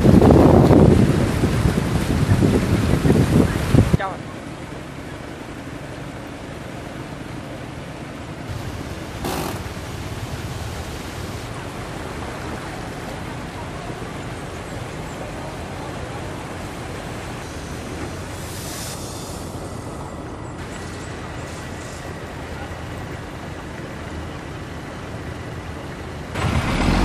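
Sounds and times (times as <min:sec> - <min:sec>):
water rushing under vehicle: 0:00.0 - 0:27.0
engine running: 0:03.6 - 0:27.0.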